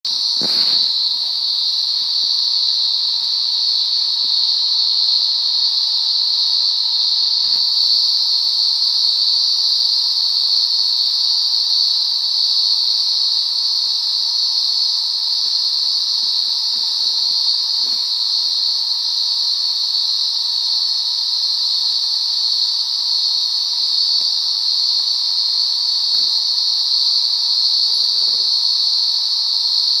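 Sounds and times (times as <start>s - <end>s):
high-pitched insect chorus: 0.0s - 30.0s
lower insect calling: 0.0s - 30.0s.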